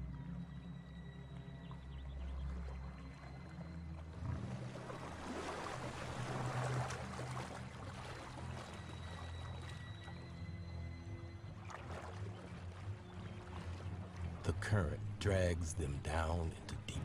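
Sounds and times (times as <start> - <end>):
water splashing and churning: 1.3 - 17.0.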